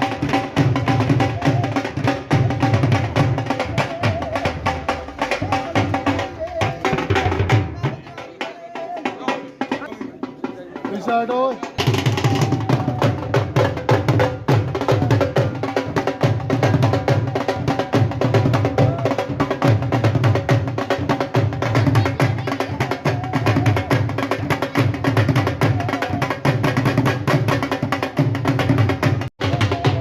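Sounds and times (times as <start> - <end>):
fast drum rhythm: 0.0 - 30.0.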